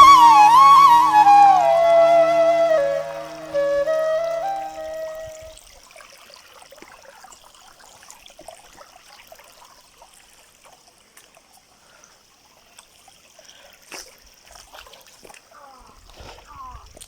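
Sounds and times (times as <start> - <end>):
stream trickling over stones: 0.1 - 17.0.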